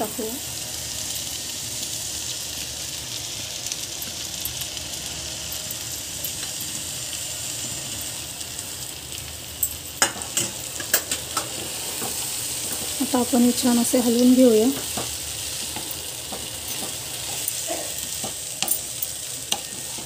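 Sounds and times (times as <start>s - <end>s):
oil sizzling in a pan: 0.0s - 20.0s.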